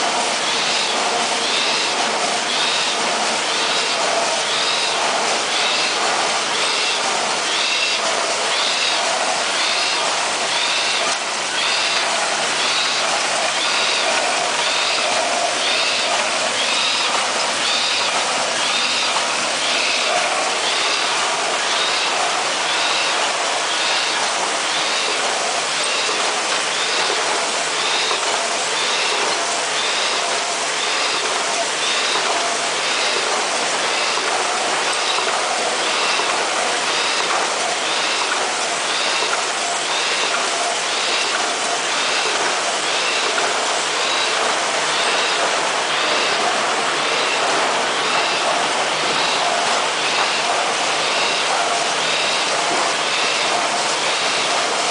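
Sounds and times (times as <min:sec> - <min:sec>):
machine clatter of rollers: 0:00.0 - 0:54.9.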